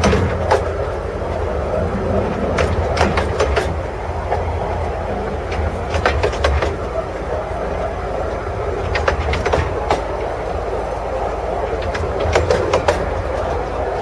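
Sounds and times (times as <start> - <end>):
railway carriage rumbling on track: 0.0 - 14.0
wheels clicking over rail joints: 0.0 - 14.0.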